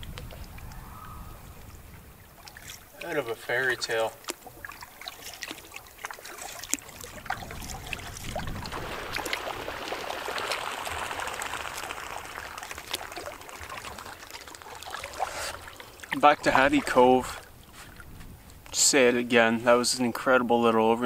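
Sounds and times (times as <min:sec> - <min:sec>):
small drips and splashes: 0:00.0 - 0:18.8
water splashing along canoe hull: 0:00.0 - 0:20.2.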